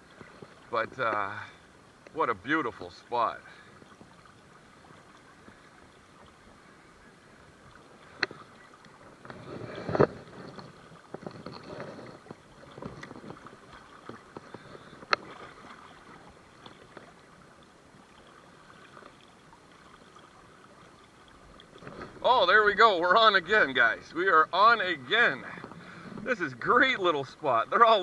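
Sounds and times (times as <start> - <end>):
water sloshing and splashing: 0.0 - 28.0.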